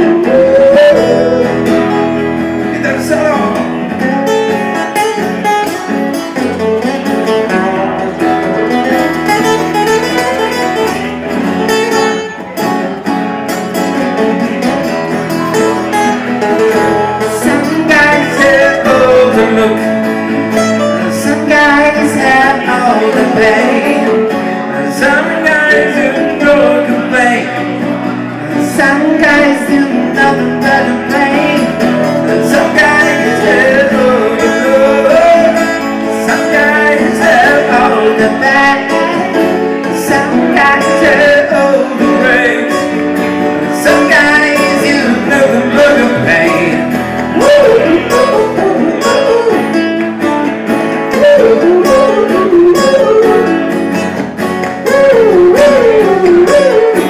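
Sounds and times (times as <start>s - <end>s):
man singing: 0.0s - 5.2s, 14.0s - 57.0s
acoustic guitars strummed and picked: 0.0s - 57.0s.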